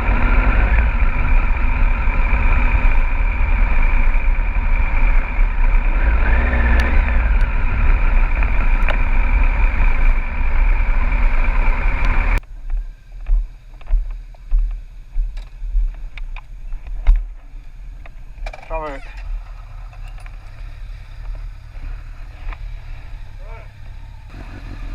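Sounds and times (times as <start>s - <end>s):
low rumbling: 0.0s - 24.9s
motorcycle engine drone: 0.0s - 24.9s.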